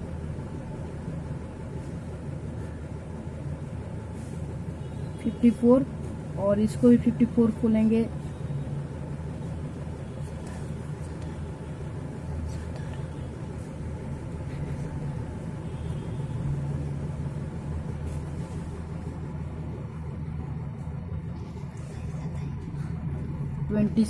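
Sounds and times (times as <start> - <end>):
faint steady hum: 0.0 - 24.0
low background rumble: 0.0 - 24.0.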